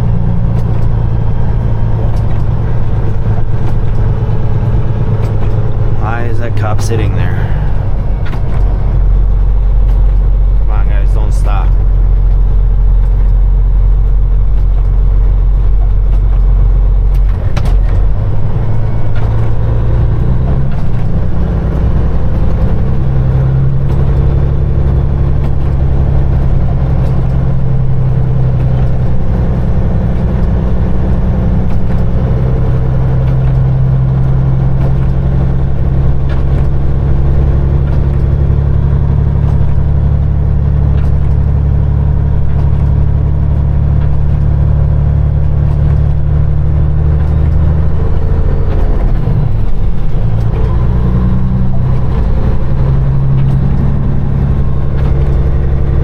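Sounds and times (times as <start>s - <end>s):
truck diesel engine accelerating: 0.0s - 56.0s.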